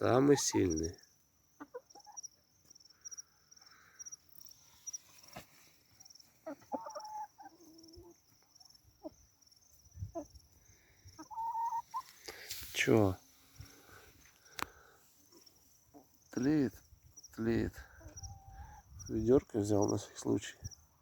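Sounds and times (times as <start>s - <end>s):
chickens clucking: 0.0s - 2.9s, 5.0s - 20.4s
faint high chirping: 0.3s - 21.0s.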